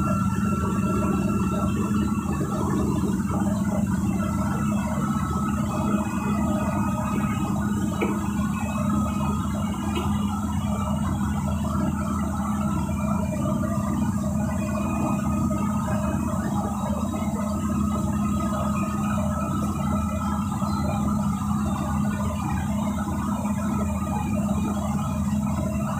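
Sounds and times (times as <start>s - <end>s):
bus diesel engine running: 0.0s - 23.8s.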